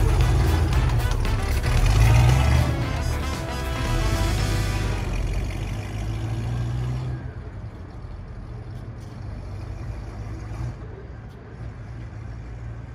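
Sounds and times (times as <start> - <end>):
car engine pulling away: 0.0 - 12.9.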